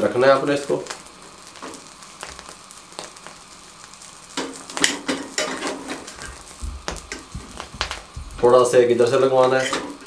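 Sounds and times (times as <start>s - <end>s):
skin sizzling and crackling in flame: 0.0s - 10.0s.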